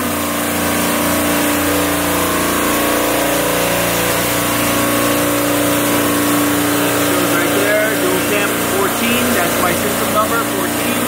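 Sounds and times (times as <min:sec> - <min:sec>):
refrigeration compressor drone: 0:00.0 - 0:11.0.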